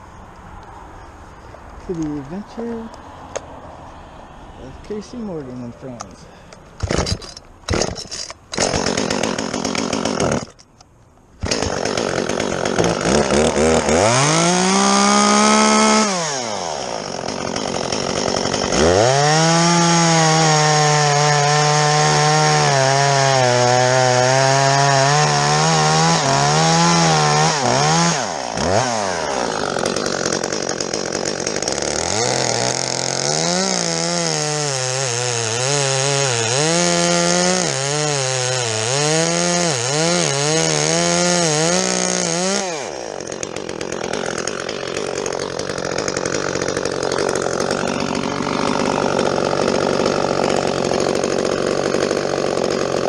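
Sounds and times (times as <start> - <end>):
chainsaw cutting wood: 6.8 - 53.0.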